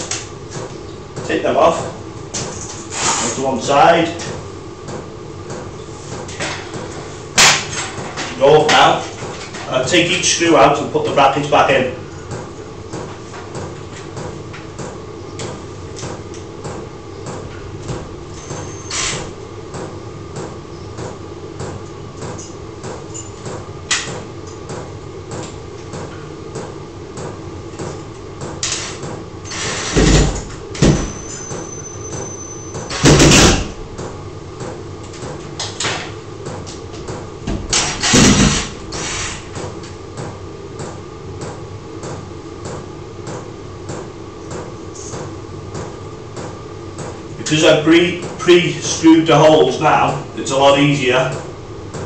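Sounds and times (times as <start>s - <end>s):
steady background hum: 0.0s - 52.0s.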